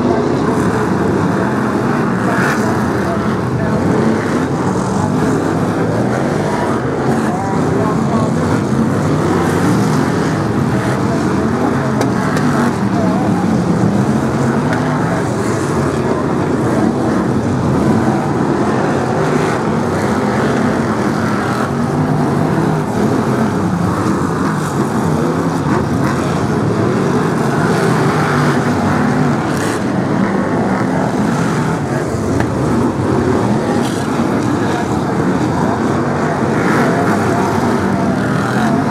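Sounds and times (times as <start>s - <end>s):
racing car engines: 0.0s - 38.9s.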